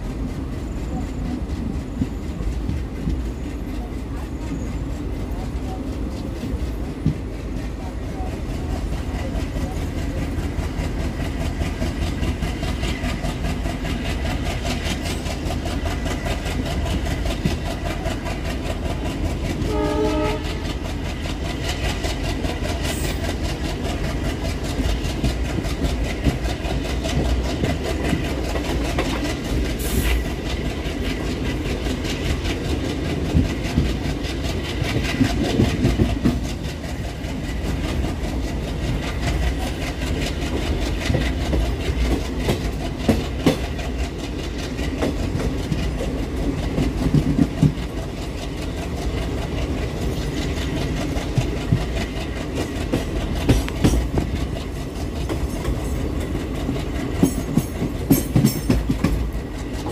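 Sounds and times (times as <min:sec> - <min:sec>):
train coaches rumbling on rails: 0:00.0 - 0:59.9.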